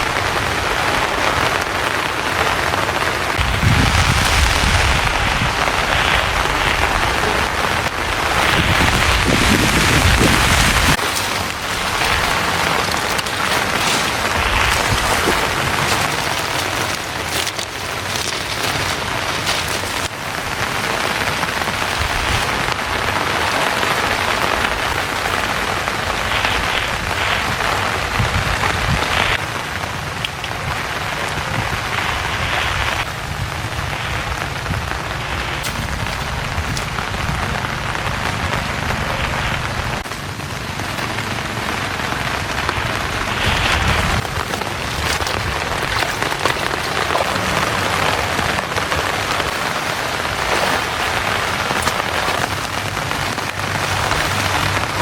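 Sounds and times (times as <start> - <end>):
heavy rain: 0.0 - 55.0
raindrops tapping close by: 0.0 - 55.0.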